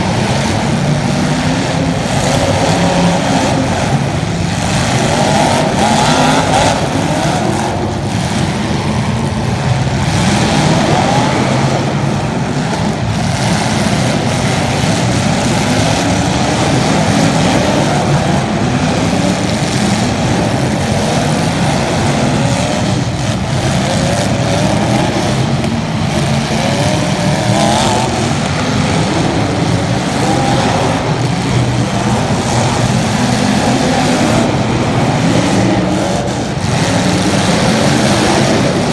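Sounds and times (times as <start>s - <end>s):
racing engines: 0.0s - 38.9s.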